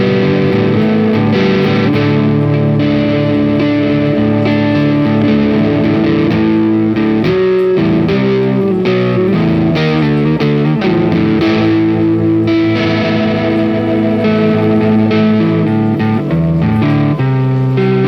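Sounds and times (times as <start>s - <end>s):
electric guitar with effects: 0.0s - 18.0s.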